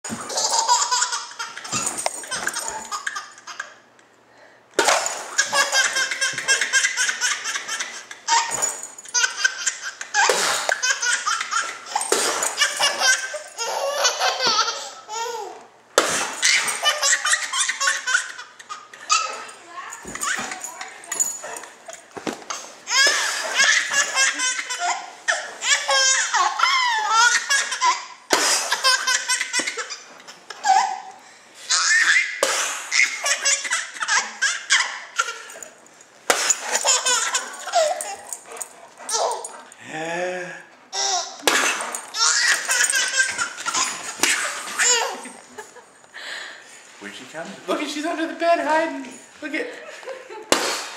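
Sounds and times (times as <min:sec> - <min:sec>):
baby laughing: 0:00.1 - 0:03.8, 0:04.8 - 0:35.8, 0:36.5 - 0:39.7, 0:40.9 - 0:45.8.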